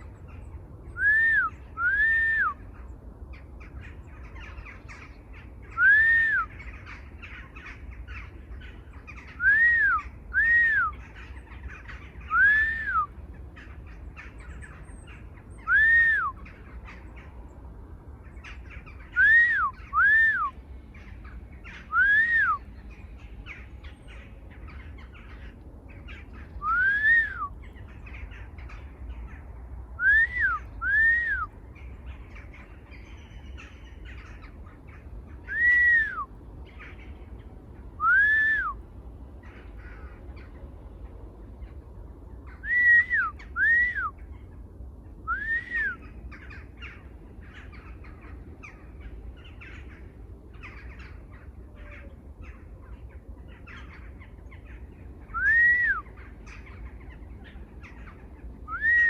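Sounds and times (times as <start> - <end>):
bird call rising and falling: 0.3 - 2.8, 3.6 - 17.4, 18.4 - 28.9, 30.0 - 37.2, 37.9 - 38.8, 42.4 - 44.4, 45.2 - 52.6, 53.4 - 59.0.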